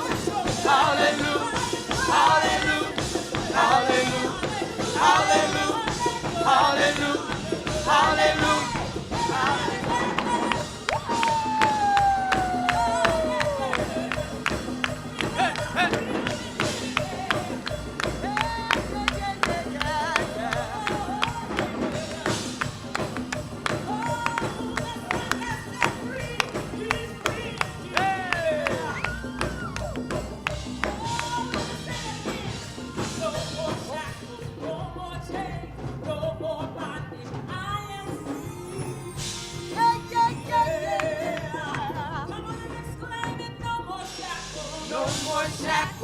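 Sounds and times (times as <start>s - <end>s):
sharp percussion strikes: 0.0s - 34.6s, 42.8s - 46.0s
voices singing: 0.0s - 35.8s, 39.8s - 46.0s
band playing: 0.0s - 46.0s
upbeat gospel instrumental music: 0.0s - 46.0s.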